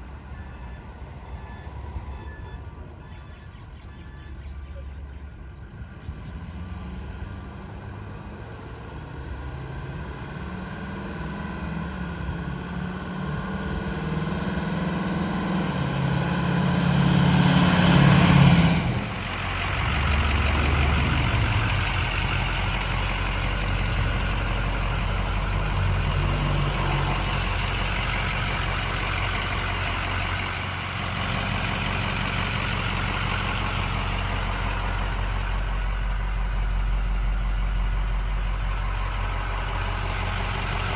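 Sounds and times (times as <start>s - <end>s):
diesel pickup truck engine running: 3.1s - 40.9s.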